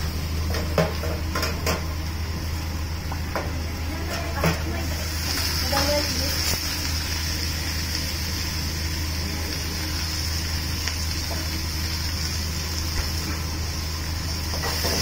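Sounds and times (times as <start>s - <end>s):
cabbage sizzling in a wok: 0.0s - 15.0s
gas burner rushing: 0.0s - 15.0s.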